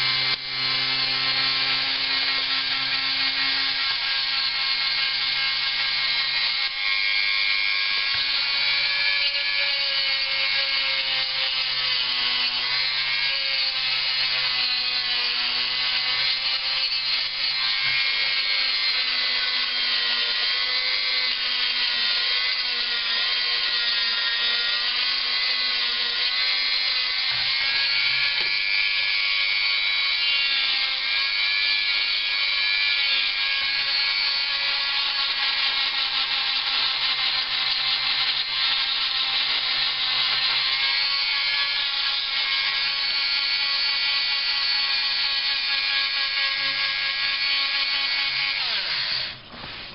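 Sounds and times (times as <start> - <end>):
power tool sanding plastic: 0.0 - 49.9.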